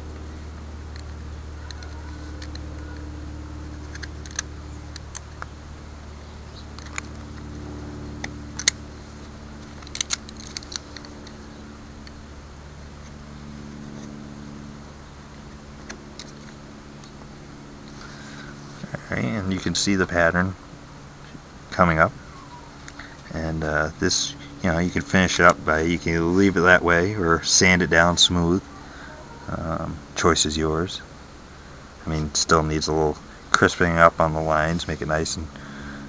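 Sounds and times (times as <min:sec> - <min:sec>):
low hum: 0:00.0 - 0:36.0.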